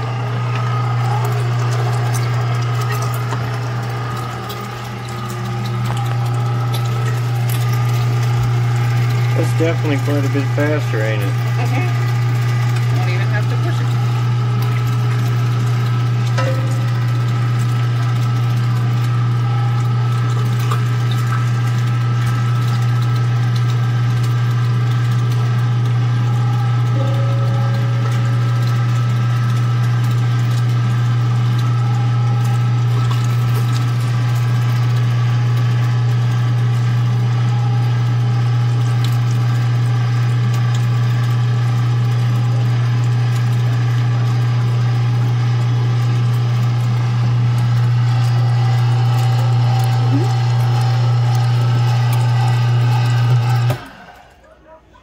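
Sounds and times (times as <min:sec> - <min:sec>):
electric meat grinder humming: 0:00.0 - 0:54.4.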